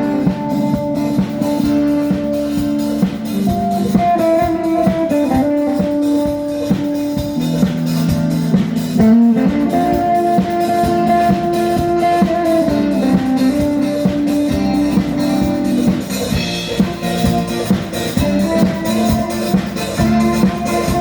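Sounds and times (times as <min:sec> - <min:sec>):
held guitar notes: 0:00.0 - 0:21.0
steady drum beat: 0:00.0 - 0:21.0.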